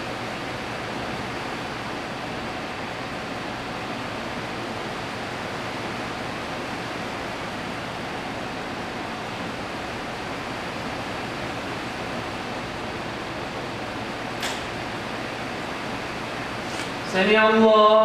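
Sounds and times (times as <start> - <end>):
steady room hiss: 0.0 - 18.0.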